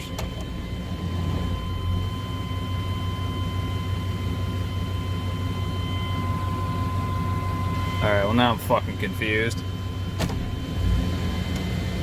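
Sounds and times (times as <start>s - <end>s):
engine idling: 0.0s - 12.0s
high-pitched whine: 0.0s - 12.0s.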